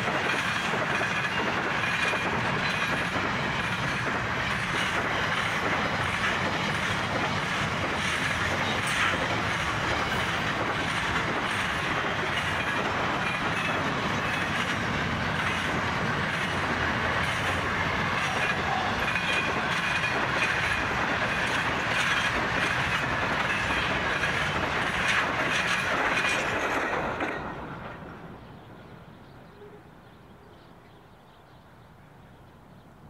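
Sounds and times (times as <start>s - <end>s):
freight train rumbling past: 0.0s - 29.4s.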